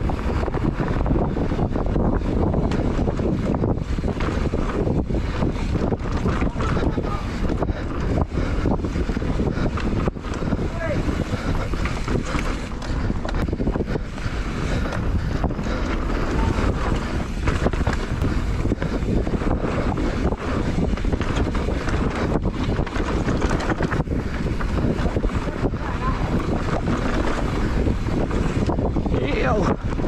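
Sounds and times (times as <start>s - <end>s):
bike knocking and rattling: 0.0s - 30.0s
tyres rumbling on dirt trail: 0.0s - 30.0s
wind rushing over microphone: 0.0s - 30.0s.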